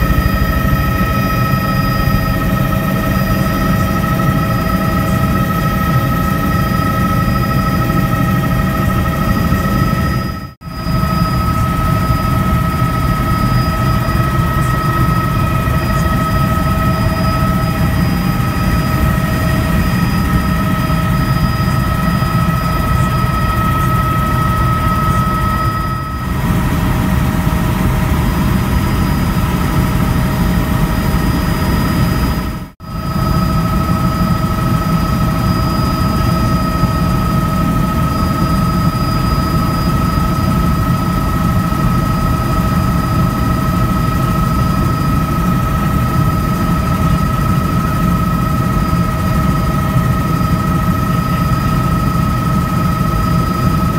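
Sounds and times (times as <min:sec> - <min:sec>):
helicopter rotor and engine drone: 0:00.0 - 0:53.9
high turbine whine: 0:00.0 - 0:53.9.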